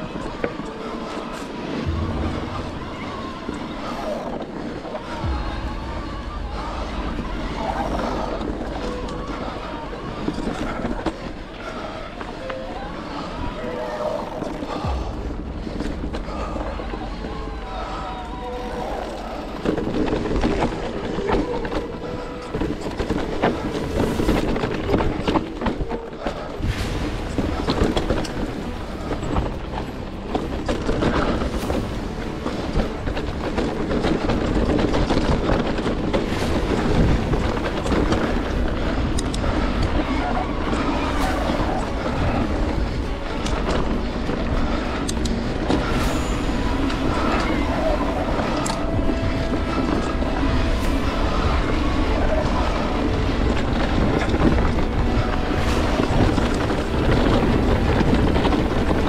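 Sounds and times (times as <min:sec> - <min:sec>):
wind buffeting microphone: 0:00.0 - 0:12.6, 0:13.3 - 0:59.0
bike rumble and rattle: 0:00.0 - 0:13.6, 0:14.3 - 0:59.0.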